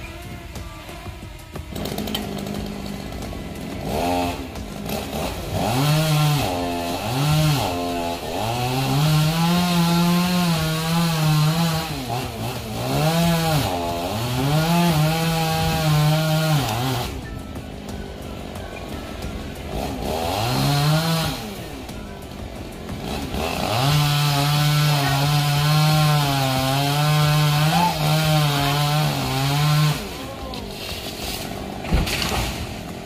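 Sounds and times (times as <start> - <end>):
chainsaw revving: 0.0 - 33.0.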